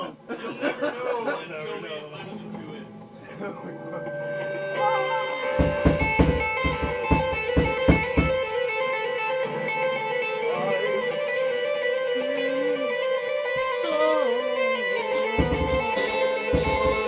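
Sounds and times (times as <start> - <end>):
band music with electric guitar: 2.2 - 17.0.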